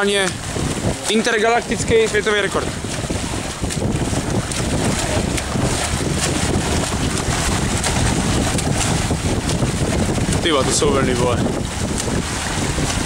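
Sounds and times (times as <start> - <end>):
swimming strokes splashing: 0.0 - 13.0
wind on microphone: 0.0 - 13.0.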